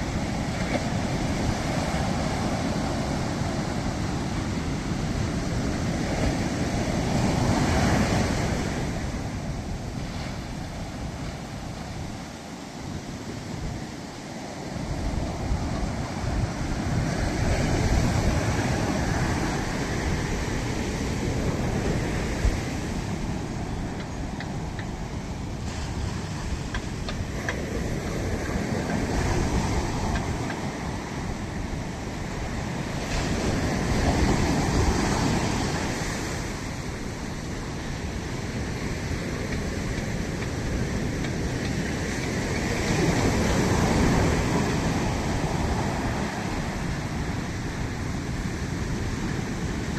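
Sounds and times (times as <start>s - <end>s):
ocean surf roaring: 0.0s - 49.9s
wind buffeting microphone: 0.0s - 49.9s.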